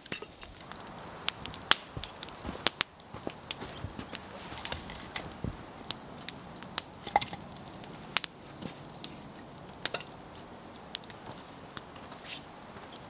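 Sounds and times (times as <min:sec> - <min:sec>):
campfire crackling: 0:00.0 - 0:13.0
sharp pops of fire: 0:00.0 - 0:13.0.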